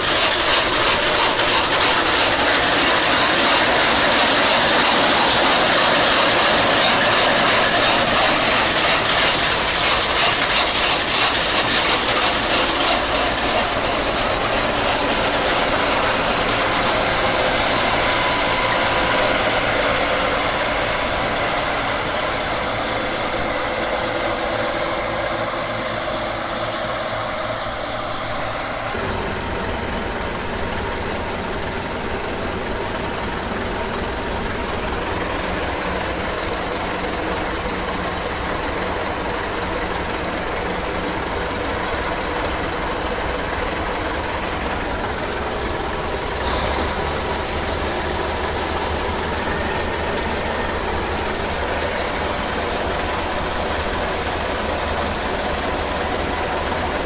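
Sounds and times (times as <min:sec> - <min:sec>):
grain pouring into trailer: 0:00.0 - 0:27.2, 0:28.9 - 0:57.0
combine harvester running: 0:00.0 - 0:57.0.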